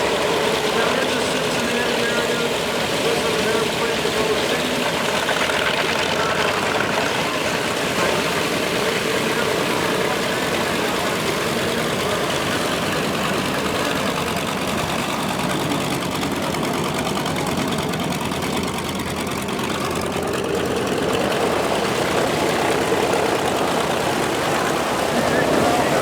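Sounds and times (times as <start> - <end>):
radial engine idling: 0.0 - 26.0.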